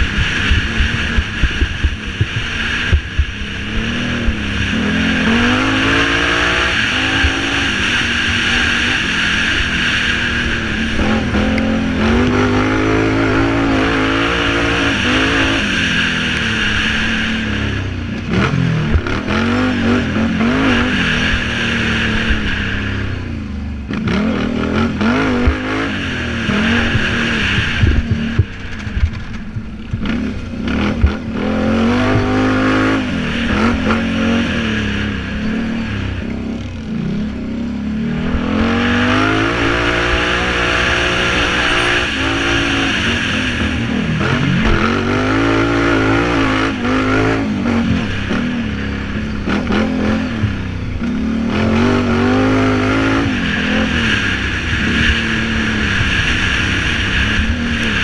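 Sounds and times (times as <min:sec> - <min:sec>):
knocks and clatters on dirt track: 0:00.0 - 0:17.2, 0:23.9 - 0:37.3, 0:38.3 - 0:58.0
quad engine revving hard: 0:00.0 - 0:23.3, 0:23.9 - 0:28.6, 0:29.9 - 0:58.0.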